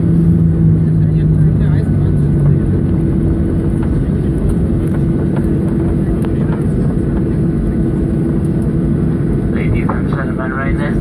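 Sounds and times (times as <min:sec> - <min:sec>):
jet engines humming: 0:00.0 - 0:11.0
low rumble of wheels: 0:00.0 - 0:11.0.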